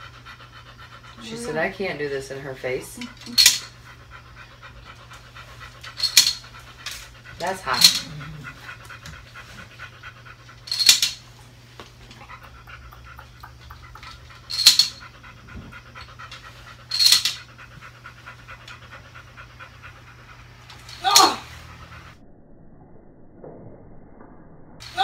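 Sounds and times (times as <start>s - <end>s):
dog panting: 0.0s - 22.2s.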